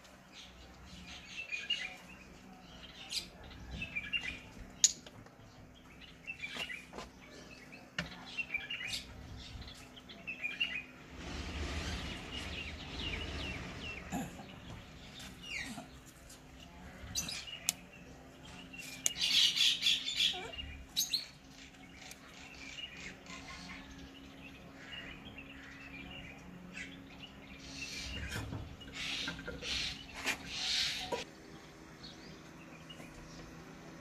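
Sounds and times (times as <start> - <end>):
birds chirping: 0.0 - 34.0
steady low hum: 0.0 - 34.0.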